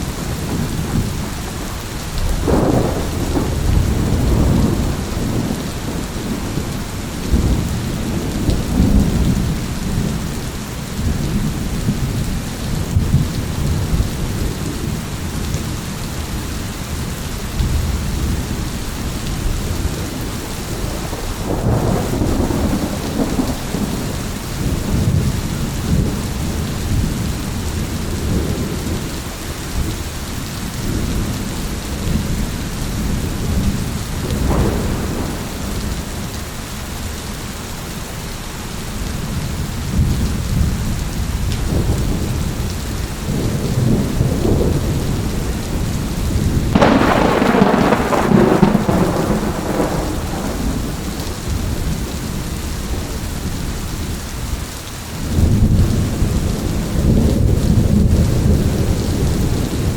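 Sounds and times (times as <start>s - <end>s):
thunder rumbling: 0.0s - 15.8s, 17.0s - 30.1s, 30.7s - 36.6s, 39.2s - 54.6s, 55.2s - 59.9s
steady rain hissing: 0.0s - 59.9s.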